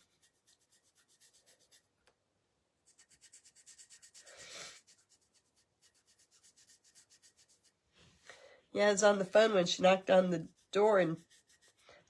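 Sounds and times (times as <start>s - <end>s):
paintbrush strokes: 0.0s - 2.0s, 2.8s - 8.2s, 8.8s - 12.0s.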